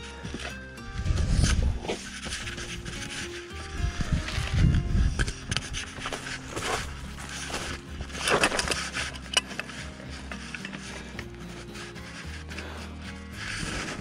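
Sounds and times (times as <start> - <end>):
background music with bass: 0.0 - 14.0
hands and tools scraping: 0.0 - 14.0.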